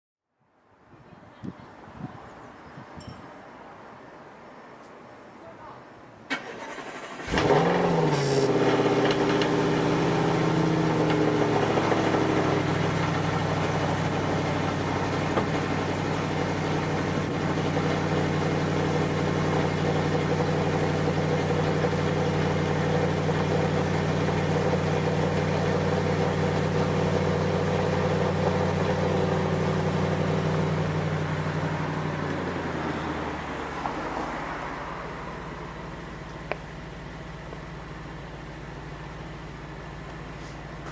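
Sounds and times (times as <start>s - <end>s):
car engine starting and idling: 6.2s - 40.9s.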